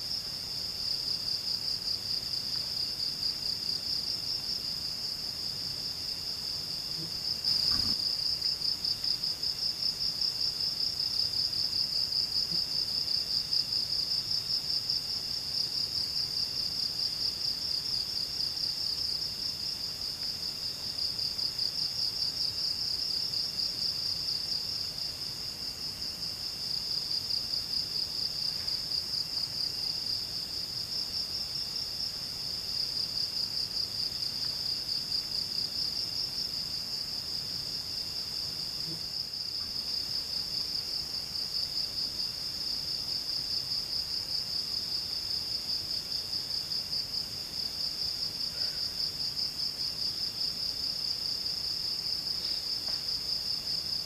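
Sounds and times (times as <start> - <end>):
faint insect chirping: 0.0 - 54.0.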